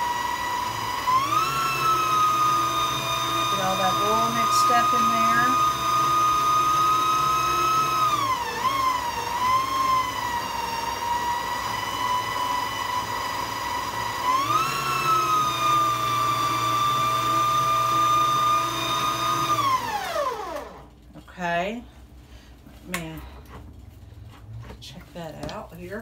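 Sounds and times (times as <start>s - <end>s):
stand mixer motor whining: 0.0s - 20.9s.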